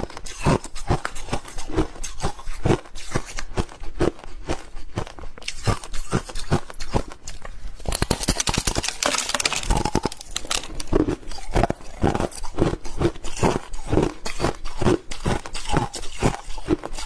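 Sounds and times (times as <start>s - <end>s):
chewing crushed ice: 0.0s - 17.0s.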